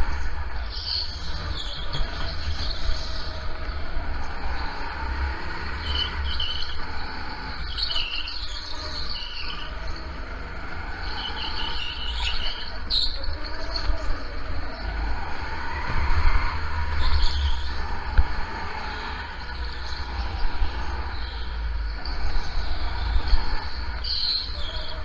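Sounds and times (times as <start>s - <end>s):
go-kart engine: 0.0s - 25.0s
tyre squeals: 0.0s - 25.0s.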